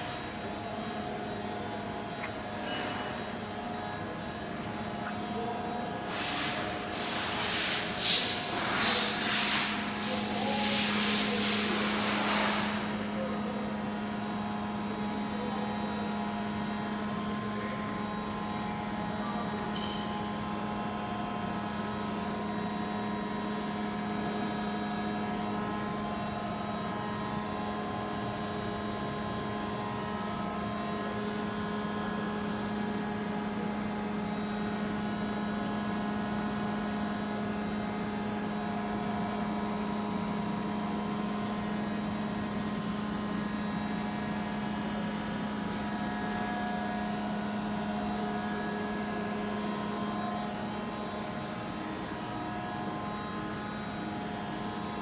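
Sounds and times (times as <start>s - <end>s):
lathe mechanical hum: 0.0s - 55.0s.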